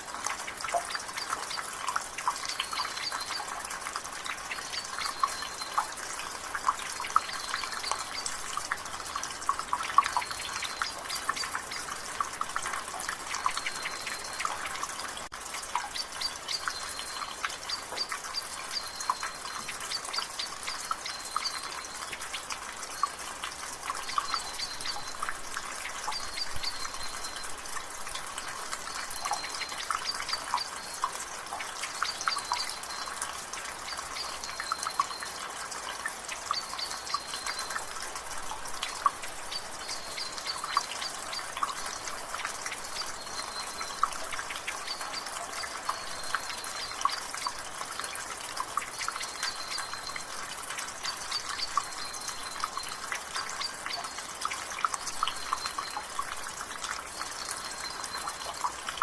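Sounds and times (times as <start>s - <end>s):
light rain hiss: 0.0s - 59.0s
water dripping from a gutter: 0.0s - 59.0s.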